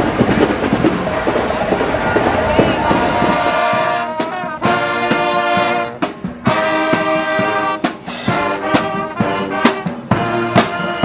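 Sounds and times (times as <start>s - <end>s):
brass chords: 0.7s - 11.0s.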